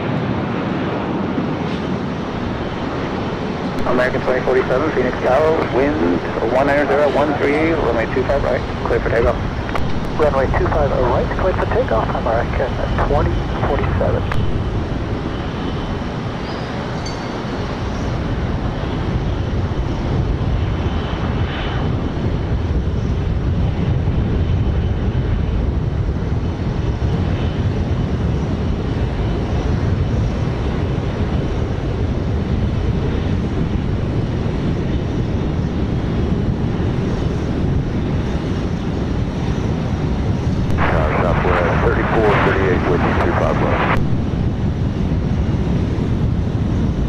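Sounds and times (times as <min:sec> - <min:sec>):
jet engines at takeoff power: 0:00.0 - 0:47.0.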